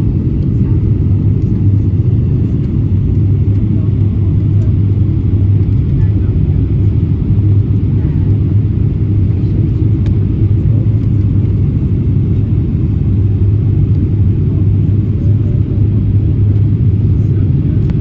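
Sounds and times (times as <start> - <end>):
airliner rumble: 0.0 - 18.0.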